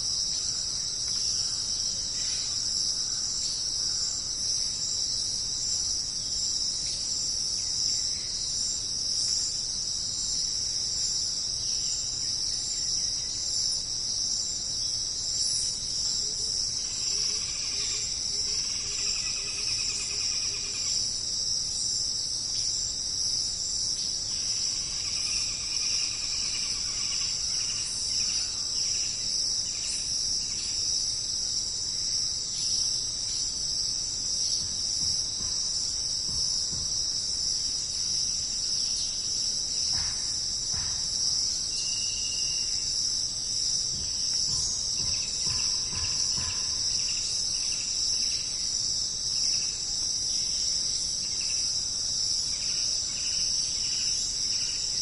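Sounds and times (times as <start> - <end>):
insect chorus buzzing: 0.0 - 55.0.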